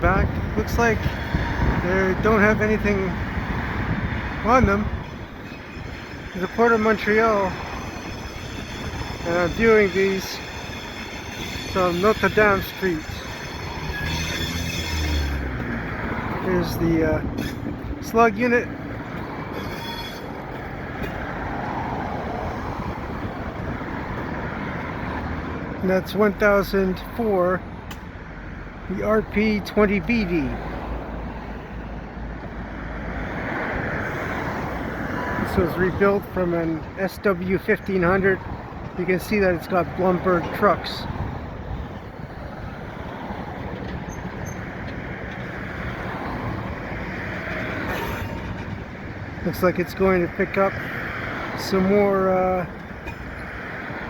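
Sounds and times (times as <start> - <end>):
diesel locomotive rolling by: 0.0 - 54.0
road traffic passing: 0.0 - 54.0.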